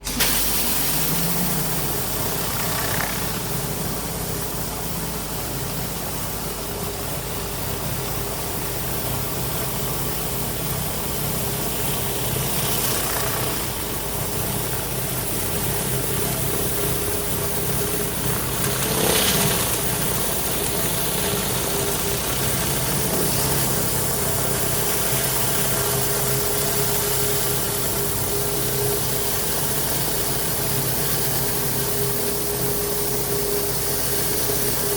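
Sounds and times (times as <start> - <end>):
constant hiss: 0.0 - 34.9
pressure washer engine running: 0.0 - 34.9.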